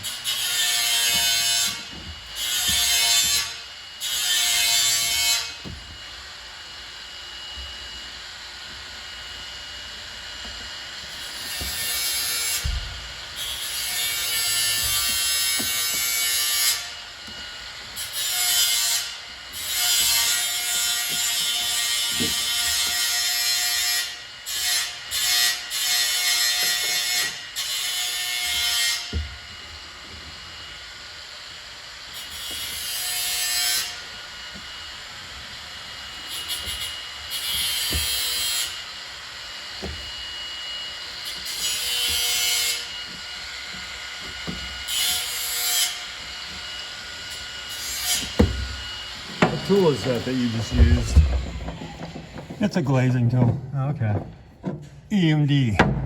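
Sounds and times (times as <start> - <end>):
tool scraping along rubber seal: 0.0 - 6.2, 9.8 - 31.0, 32.1 - 53.6.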